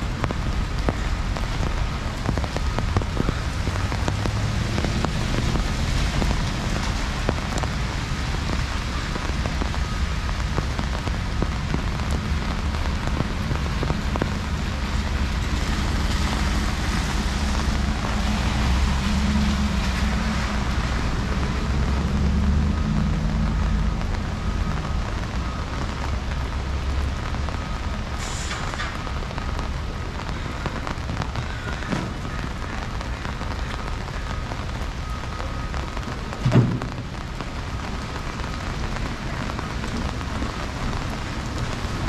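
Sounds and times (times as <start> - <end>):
heavy rain on street: 0.0 - 42.0
low traffic rumble: 0.0 - 42.0.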